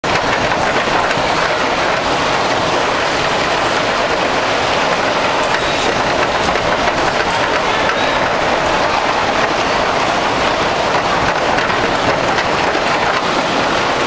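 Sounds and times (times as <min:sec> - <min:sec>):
bumper car rolling rumble: 0:00.0 - 0:14.0.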